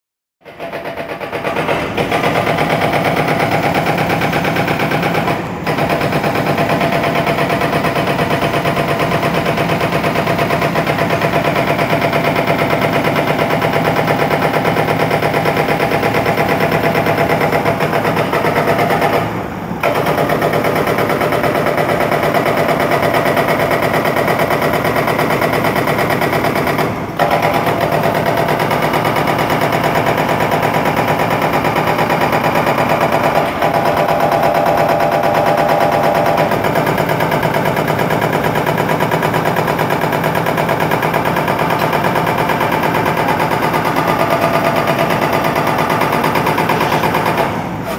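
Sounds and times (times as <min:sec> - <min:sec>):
jackhammer pounding: 0:00.4 - 0:47.9.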